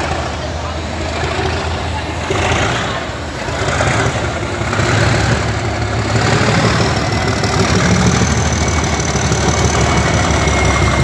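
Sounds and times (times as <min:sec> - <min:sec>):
diesel locomotive engine idling: 0:00.0 - 0:11.0.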